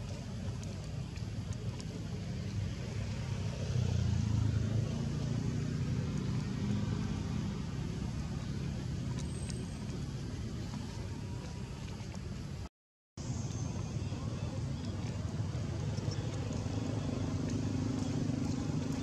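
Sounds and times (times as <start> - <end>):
vehicle engine rumble passing: 0.0 - 19.0.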